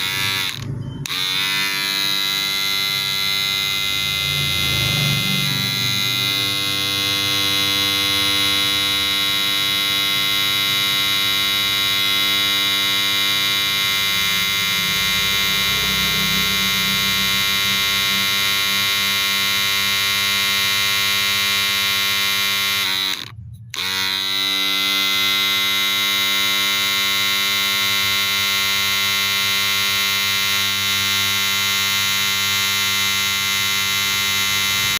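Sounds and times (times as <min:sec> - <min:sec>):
cordless hair clipper running: 0:00.0 - 0:34.9.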